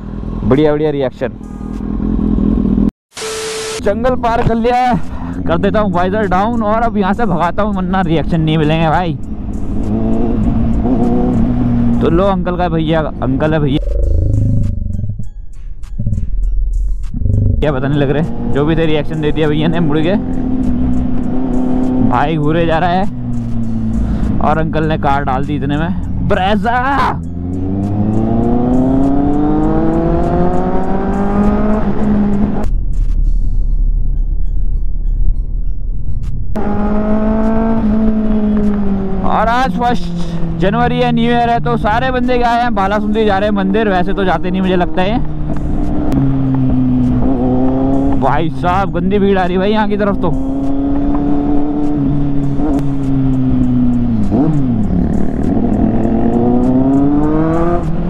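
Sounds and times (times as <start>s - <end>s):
motorcycle engine accelerating: 0.0s - 2.9s, 8.0s - 16.3s, 16.9s - 32.8s, 36.4s - 58.0s.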